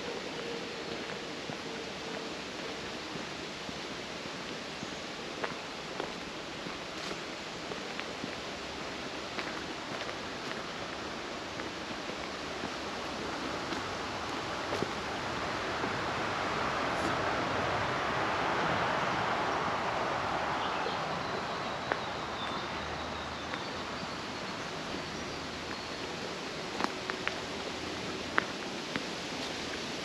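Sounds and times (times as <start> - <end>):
steady outdoor rushing noise: 0.0 - 30.0.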